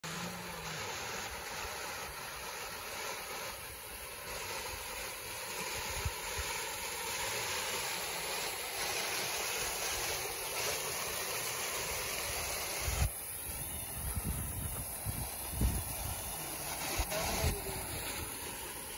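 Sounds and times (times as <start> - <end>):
water rushing over a weir: 0.0 - 18.9.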